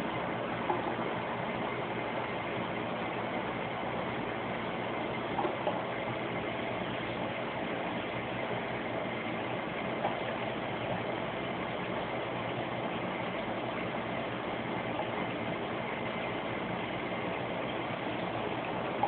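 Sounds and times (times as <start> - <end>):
aquarium pumps humming: 0.0 - 19.0.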